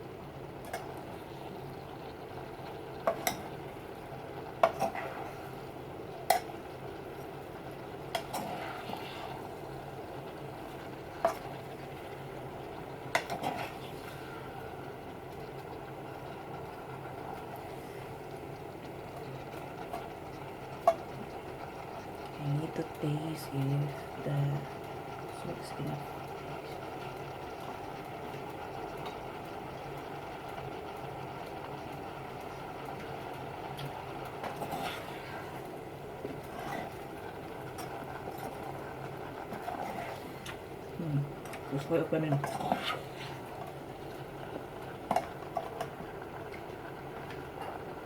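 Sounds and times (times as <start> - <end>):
steady mechanical hum: 0.0 - 48.0
vegetables being stirred: 0.6 - 15.6, 16.3 - 47.8.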